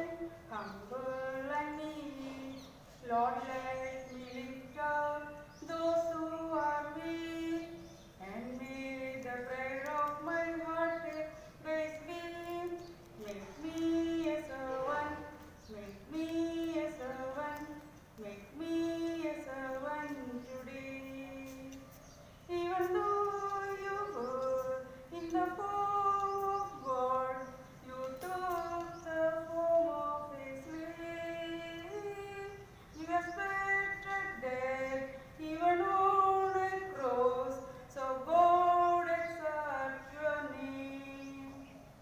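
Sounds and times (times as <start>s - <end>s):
woman singing unaccompanied: 0.0s - 42.0s.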